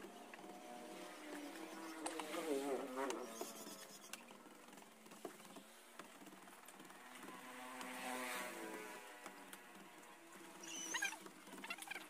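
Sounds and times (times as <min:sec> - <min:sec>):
engine passing: 0:00.0 - 0:12.0.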